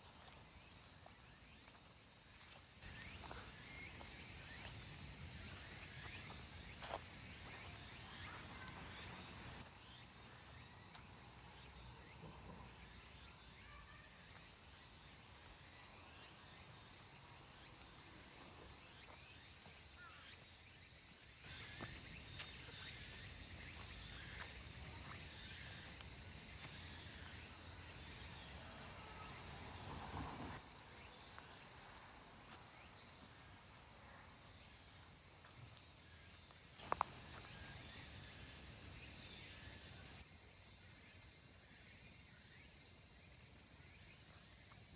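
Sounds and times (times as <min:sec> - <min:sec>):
insects droning in trees: 0:00.0 - 0:44.9.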